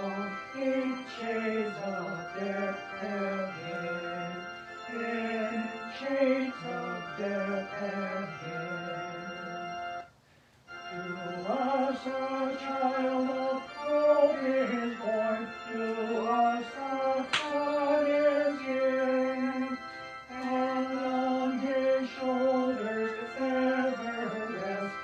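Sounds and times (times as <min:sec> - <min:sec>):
voices singing a hymn: 0:00.0 - 0:10.1, 0:10.7 - 0:25.0
organ chords: 0:00.0 - 0:25.0.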